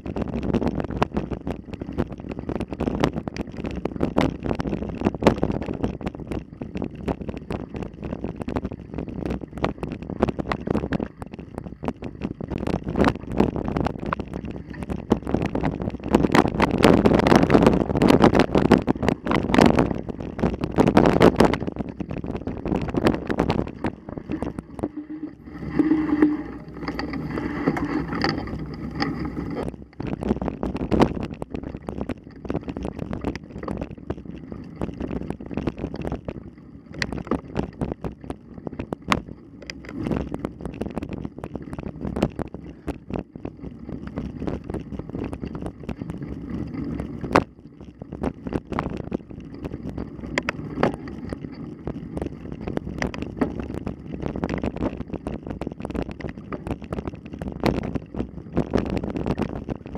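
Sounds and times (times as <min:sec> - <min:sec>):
bike rattles and knocks: 0:00.0 - 0:59.9
wind on microphone: 0:00.0 - 0:59.9.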